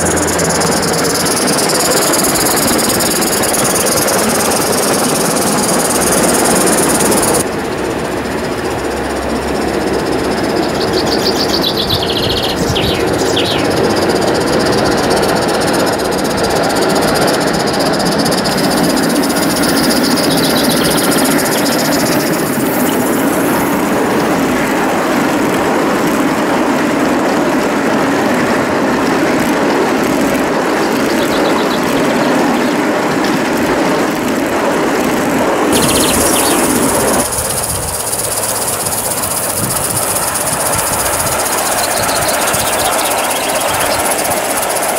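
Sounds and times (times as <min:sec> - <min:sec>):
steam locomotive running: 0:00.0 - 0:44.9
wagons clattering on track: 0:00.0 - 0:44.9.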